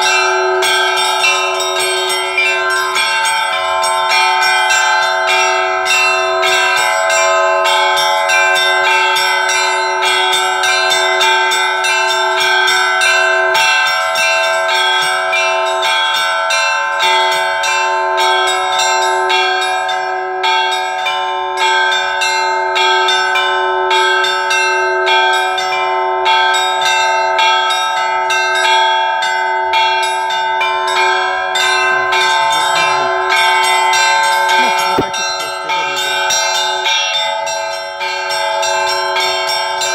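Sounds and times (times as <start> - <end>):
large bells ringing: 0.0 - 39.9
small church bells striking rapidly: 0.0 - 39.9.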